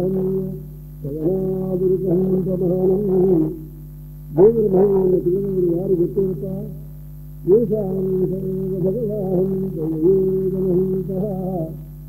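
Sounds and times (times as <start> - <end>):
man chanting: 0.0 - 3.7, 4.3 - 6.8, 7.4 - 11.9
steady low hum: 0.0 - 12.0.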